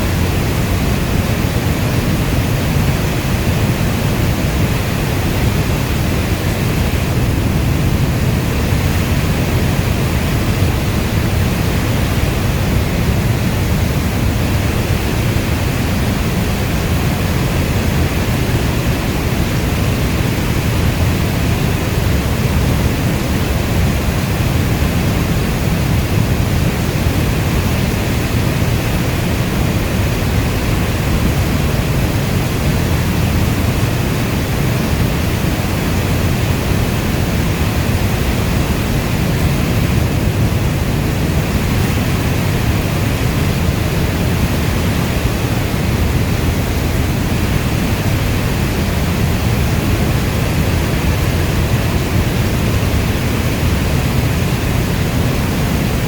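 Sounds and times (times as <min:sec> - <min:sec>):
heavy rainstorm: 0:00.0 - 0:56.0.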